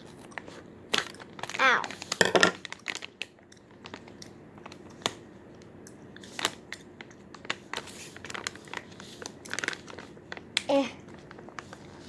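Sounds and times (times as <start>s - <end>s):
plastic packaging crinkling: 1.2s - 5.2s, 6.2s - 12.0s.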